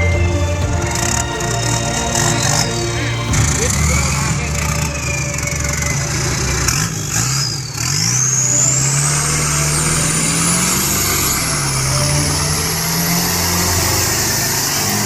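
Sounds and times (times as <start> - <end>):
high whine climbing: 0.0 - 15.0.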